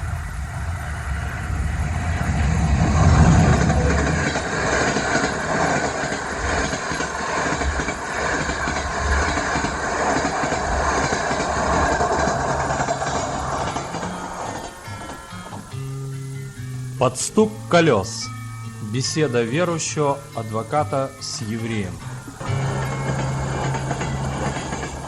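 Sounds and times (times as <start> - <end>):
train wheels rumbling on rails: 0.0 - 25.0
wheels knocking over rail joints: 1.5 - 16.9, 19.1 - 25.0.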